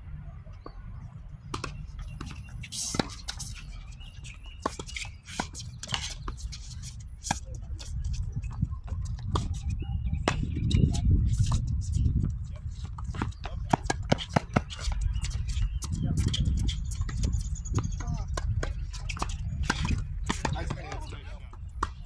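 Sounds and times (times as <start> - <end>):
balls bouncing on hard court: 0.6 - 22.0
tennis balls struck by rackets: 1.4 - 7.9, 10.2 - 11.7, 12.3 - 22.0.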